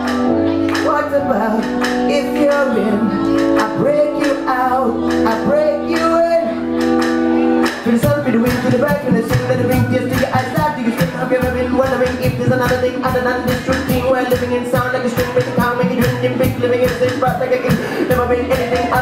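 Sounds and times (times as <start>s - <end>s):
held band chords: 0.0s - 19.0s
man singing into a microphone: 0.0s - 19.0s
steady drum beat: 0.0s - 19.0s.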